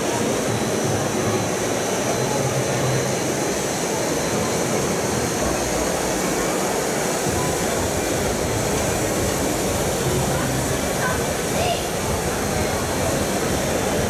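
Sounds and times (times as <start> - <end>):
exhibition hall background noise: 0.0 - 14.0.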